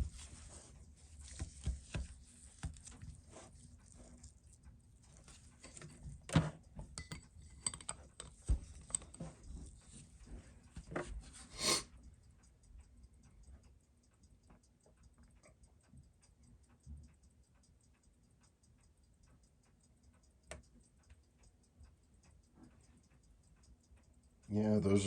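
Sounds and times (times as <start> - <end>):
watch movement ticking: 0.0 - 25.0.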